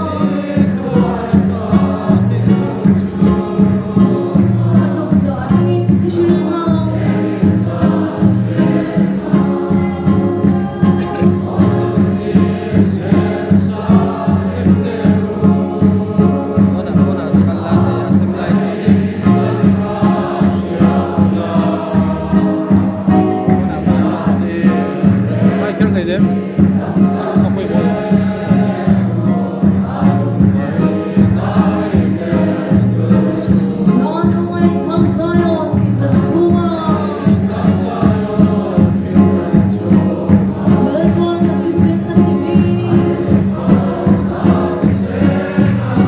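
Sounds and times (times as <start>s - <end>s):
barrel drum beating: 0.0s - 46.0s
congregation singing a hymn: 0.0s - 46.0s.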